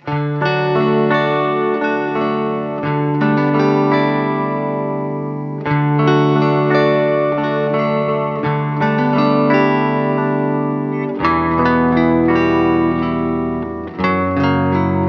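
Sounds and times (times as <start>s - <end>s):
plucked-string chords: 0.0s - 15.0s.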